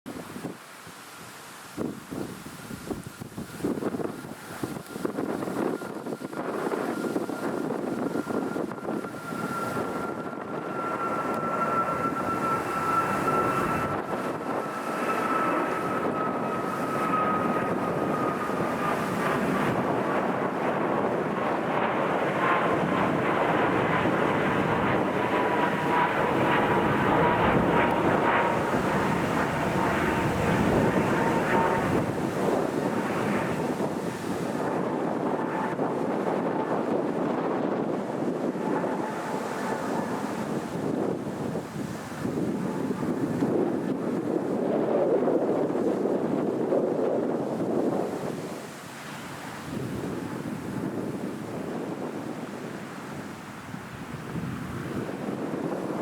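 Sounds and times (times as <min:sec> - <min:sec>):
airliner flying past: 0:00.2 - 0:56.0.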